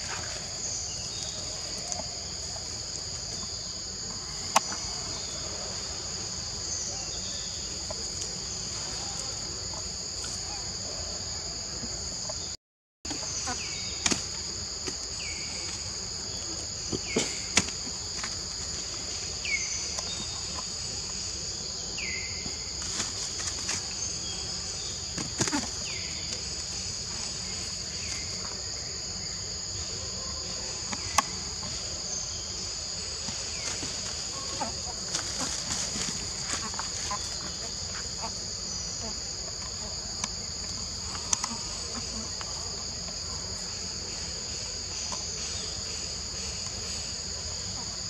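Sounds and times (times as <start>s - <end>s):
insects droning: 0.0s - 48.0s.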